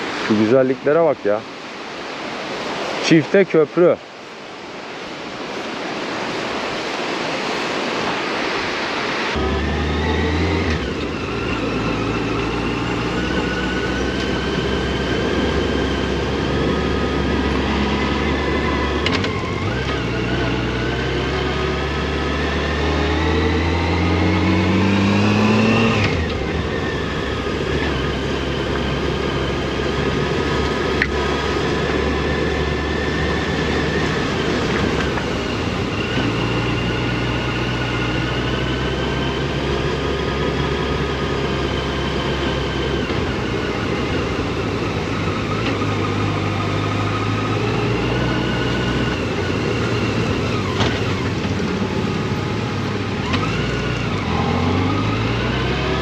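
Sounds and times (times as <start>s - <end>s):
motorcycle engine accelerating: 9.4s - 56.0s.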